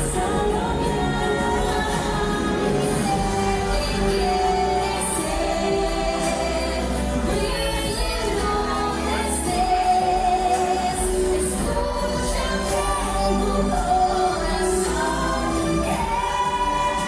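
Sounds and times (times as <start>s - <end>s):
steady bass: 0.0s - 17.0s.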